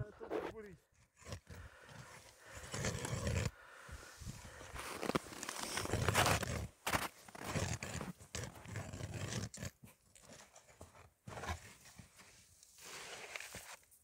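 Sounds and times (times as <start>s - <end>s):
ice auger scraping and crunching: 0.2s - 13.9s.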